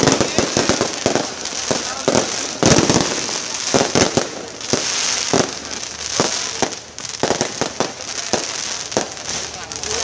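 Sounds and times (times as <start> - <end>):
fireworks bangs and pops: 0.0 - 10.0
steady high hiss: 0.0 - 10.0.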